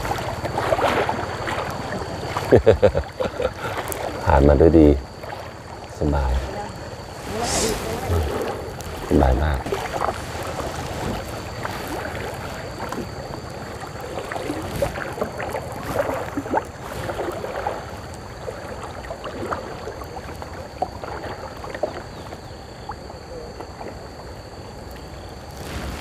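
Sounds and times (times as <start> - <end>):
paddle splashes: 0.0 - 26.0
water splashing and gurgling: 0.0 - 26.0.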